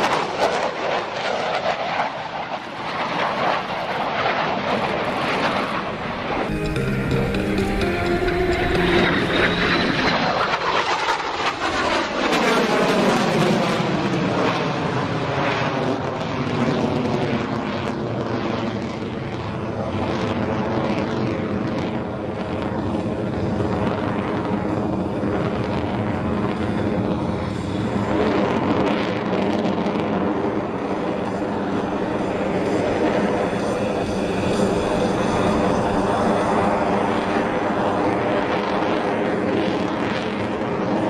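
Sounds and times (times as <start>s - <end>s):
fighter jet roaring overhead: 0.0s - 41.0s.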